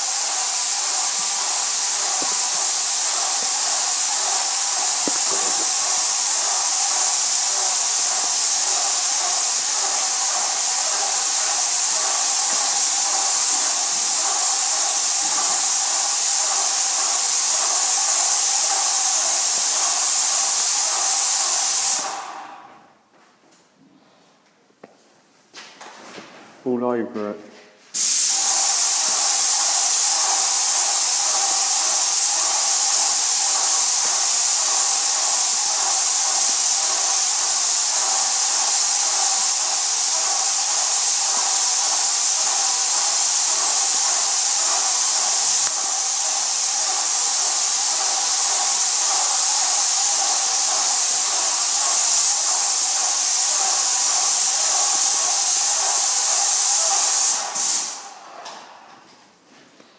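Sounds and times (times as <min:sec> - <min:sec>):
sprayer whine: 0:00.0 - 0:22.4, 0:28.0 - 0:58.1
paint sprayer hissing: 0:00.0 - 0:22.9, 0:27.9 - 0:59.0.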